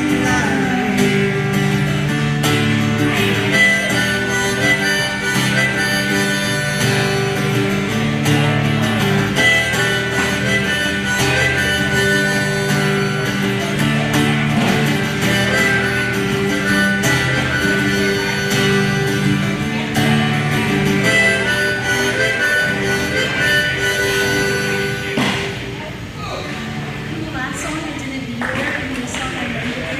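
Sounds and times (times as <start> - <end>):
band playing live: 0.0 - 27.6.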